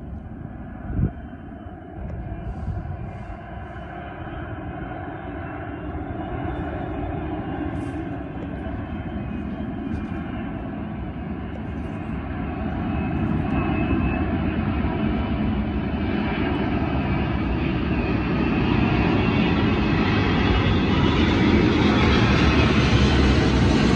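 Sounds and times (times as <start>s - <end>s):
jet airliner passing overhead: 0.0s - 23.9s.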